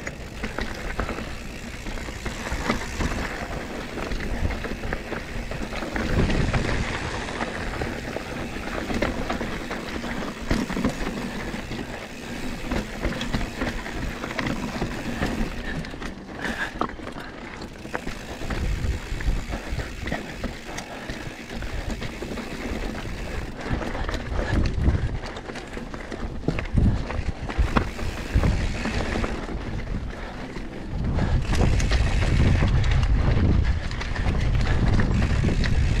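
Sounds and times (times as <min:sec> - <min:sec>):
bike knocks and rattles: 0:00.0 - 0:36.0
tyres rushing on dirt and rock: 0:00.0 - 0:36.0.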